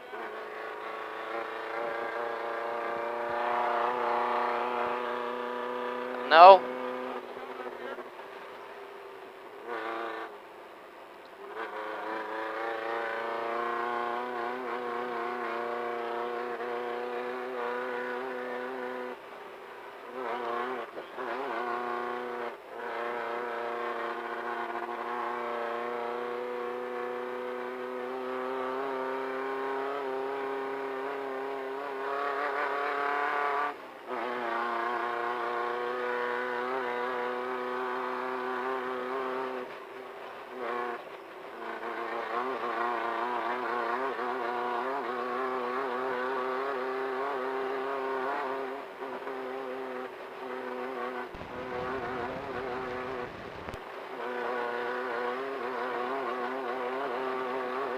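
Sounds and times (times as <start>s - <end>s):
race car engine at high revs: 0.0s - 57.9s.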